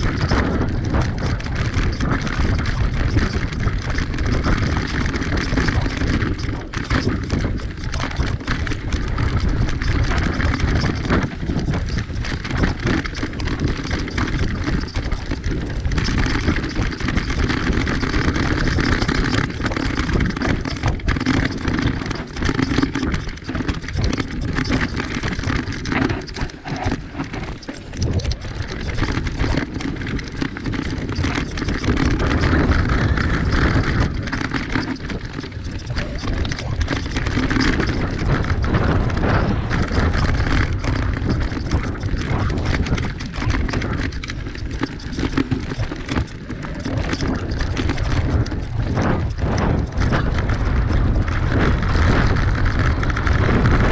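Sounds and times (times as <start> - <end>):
bike rattling over bumps: 0.0 - 53.9
bike tyres on dirt and stones: 0.0 - 53.9
wind rushing on microphone: 0.0 - 53.9.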